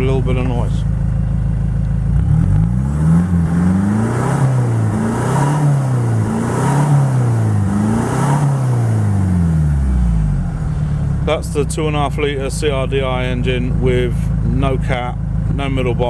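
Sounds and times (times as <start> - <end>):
diesel engine revving: 0.0 - 16.0.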